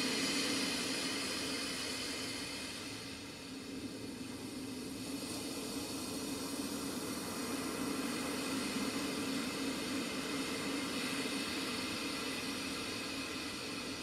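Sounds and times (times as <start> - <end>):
even hiss: 0.0 - 14.0.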